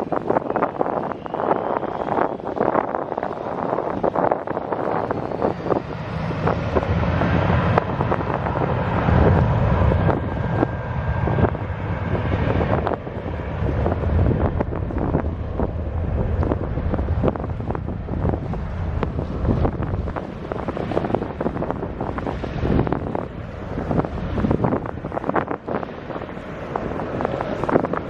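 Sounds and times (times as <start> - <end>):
jet engines running: 0.0 - 28.0
thin whine: 0.0 - 28.0
wind buffeting microphone: 0.0 - 28.0.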